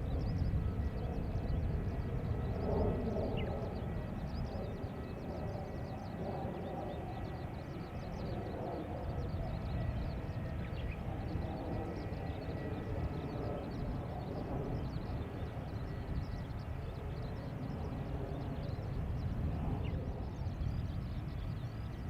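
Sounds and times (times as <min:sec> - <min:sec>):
faint engine whine: 0:00.0 - 0:22.0
jet engines rumbling: 0:00.0 - 0:22.0.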